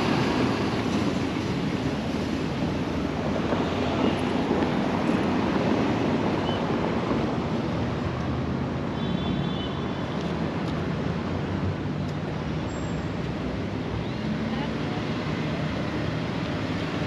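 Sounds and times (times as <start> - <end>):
cars passing: 0.0 - 17.0.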